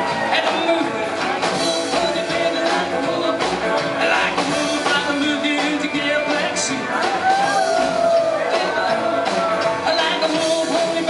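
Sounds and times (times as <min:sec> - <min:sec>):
upright double bass: 0:00.0 - 0:11.0.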